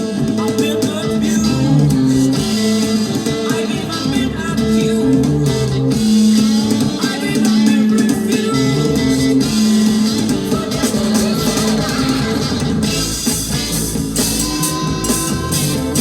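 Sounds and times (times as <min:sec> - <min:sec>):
drum kit: 0:00.0 - 0:16.0
electric guitar playing: 0:00.0 - 0:16.0.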